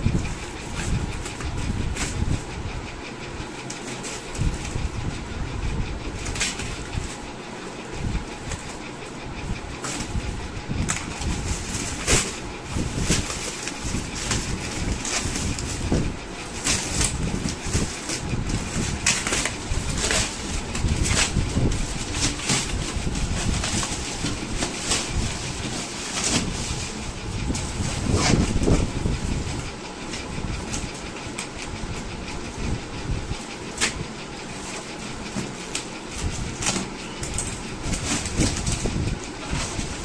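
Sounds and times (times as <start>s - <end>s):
sharp clicks and rustles: 0.0s - 40.0s.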